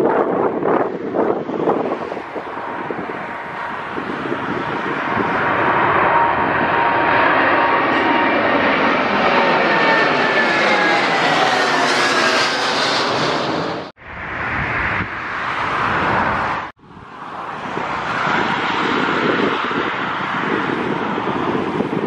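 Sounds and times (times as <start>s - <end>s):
jet engines roaring at takeoff: 0.0s - 22.0s
jet engines roaring overhead: 0.0s - 22.0s.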